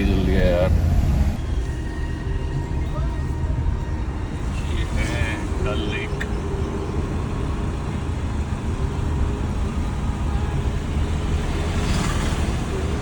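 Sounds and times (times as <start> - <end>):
car engine and tyre rumble: 0.0 - 13.0
other traffic: 0.0 - 13.0.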